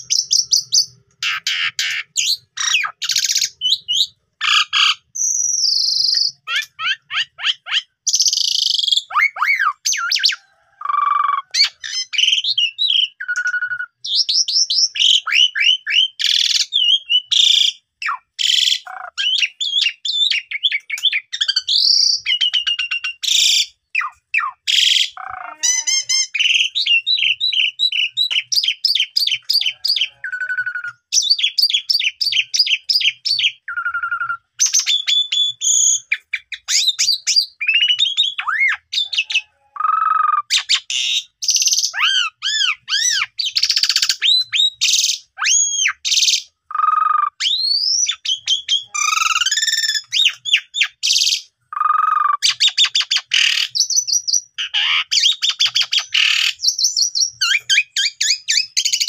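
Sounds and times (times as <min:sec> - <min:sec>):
starling singing: 0:00.0 - 0:59.0.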